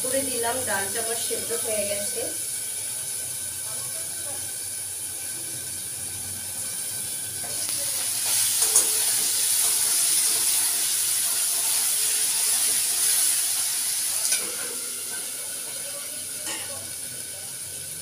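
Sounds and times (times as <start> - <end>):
potatoes and onions sizzling: 0.0 - 18.0.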